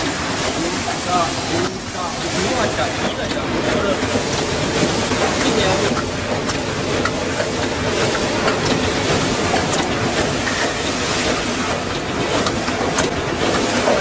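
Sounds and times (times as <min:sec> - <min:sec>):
machine clicks and clacks: 0:00.0 - 0:14.0
machine whirring: 0:00.0 - 0:14.0.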